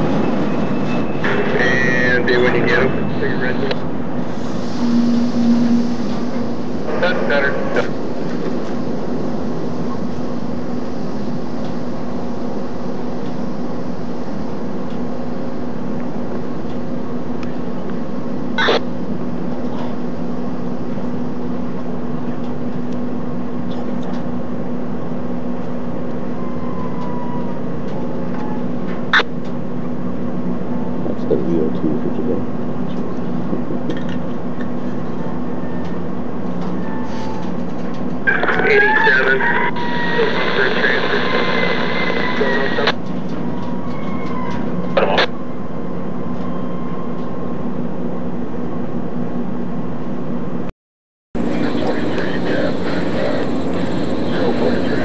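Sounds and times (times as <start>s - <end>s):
diesel locomotive droning: 0.0s - 50.7s, 51.4s - 55.0s.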